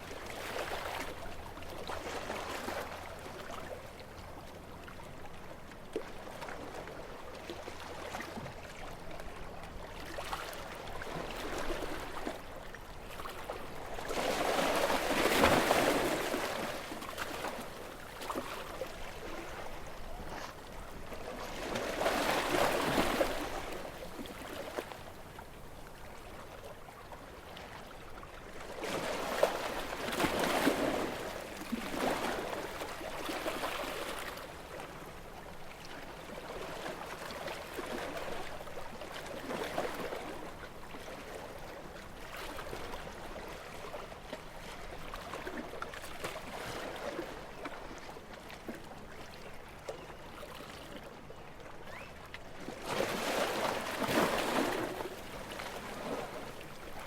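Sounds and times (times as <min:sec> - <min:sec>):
gentle sea waves: 0:00.0 - 0:57.0.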